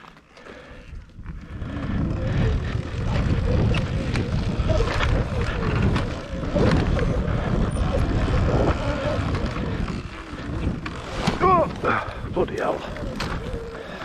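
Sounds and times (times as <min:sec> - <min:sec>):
wind rushing over microphone: 0:00.8 - 0:14.0.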